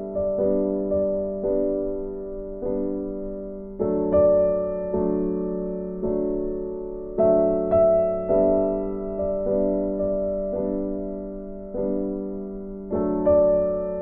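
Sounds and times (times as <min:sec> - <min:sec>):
gentle keyboard chords: 0:00.0 - 0:14.0.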